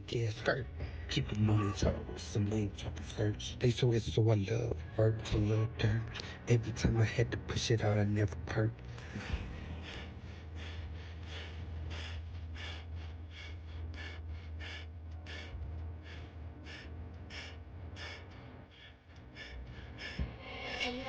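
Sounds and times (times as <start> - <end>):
deep bass: 0.0 - 21.0.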